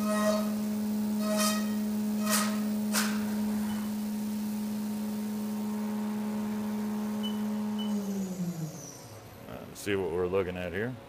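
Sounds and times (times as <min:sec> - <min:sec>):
milling machine cutting metal: 0:00.0 - 0:09.3.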